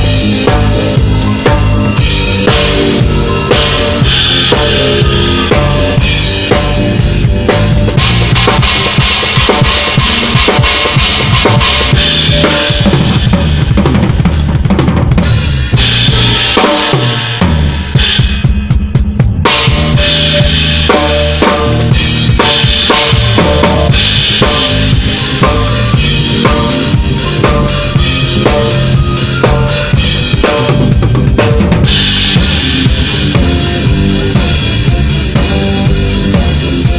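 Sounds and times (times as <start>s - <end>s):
loud music with drum beat: 0.0s - 36.9s
stepping bass line: 0.0s - 36.9s.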